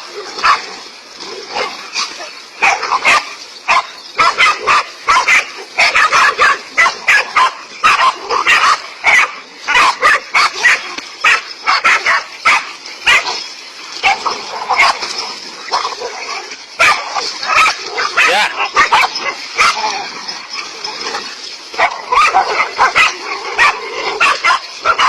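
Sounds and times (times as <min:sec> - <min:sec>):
dog barking: 0:00.4 - 0:00.7, 0:01.6 - 0:15.1, 0:16.8 - 0:21.2, 0:21.8 - 0:25.0.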